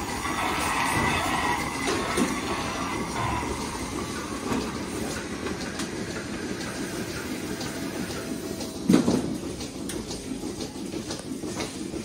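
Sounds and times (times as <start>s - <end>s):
milking machinery drone: 0.0s - 12.0s.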